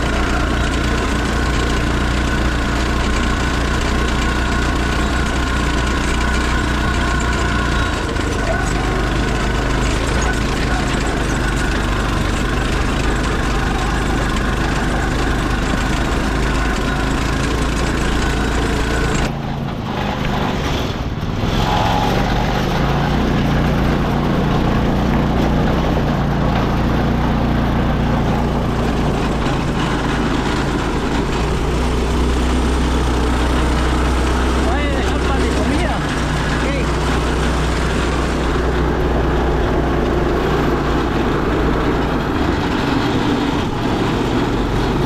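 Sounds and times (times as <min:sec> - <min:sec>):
go-kart engine running: 0:00.0 - 0:45.0.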